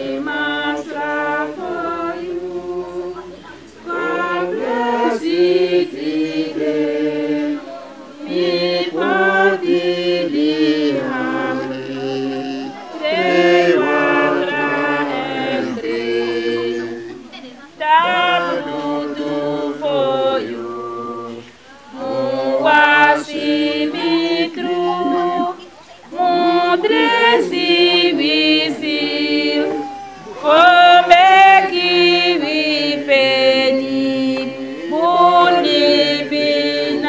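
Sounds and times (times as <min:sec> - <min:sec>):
group singing unaccompanied: 0:00.0 - 0:37.0.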